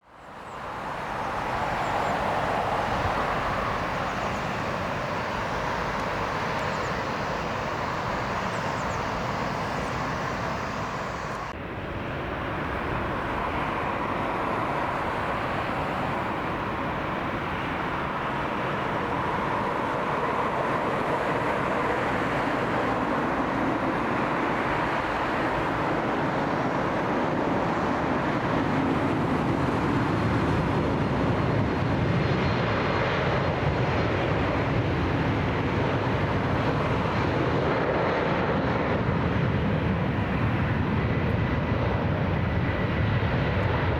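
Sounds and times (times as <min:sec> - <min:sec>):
jet airliner engines running: 0:00.0 - 0:43.9.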